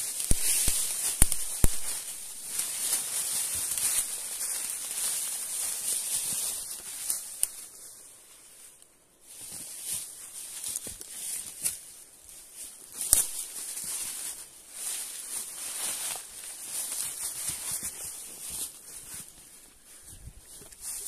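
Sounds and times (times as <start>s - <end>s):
brush rustling: 0.0s - 21.0s
footsteps crunching through dry leaves: 0.0s - 21.0s.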